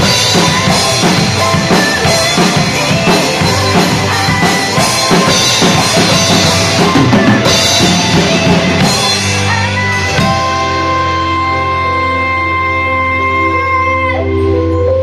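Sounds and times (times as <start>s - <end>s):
drum kit playing: 0.0s - 13.2s
pop-rock backing track: 0.0s - 15.0s.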